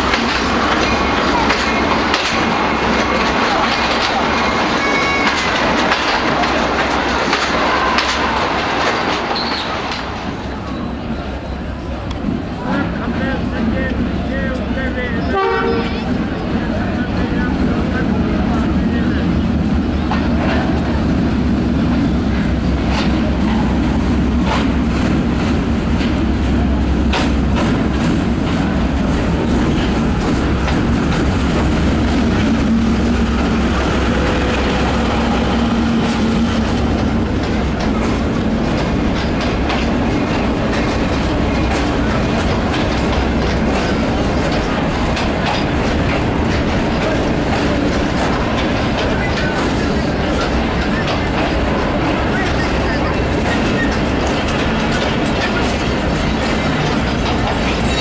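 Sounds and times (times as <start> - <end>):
locomotive engine rumbling: 0.0 - 58.0
wheels clanking on track: 0.0 - 58.0.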